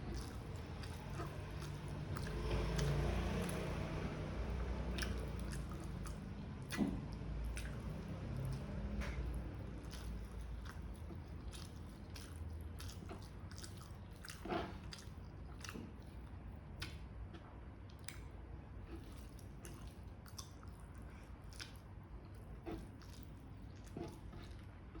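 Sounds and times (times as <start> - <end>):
close-up chewing: 0.0 - 25.0.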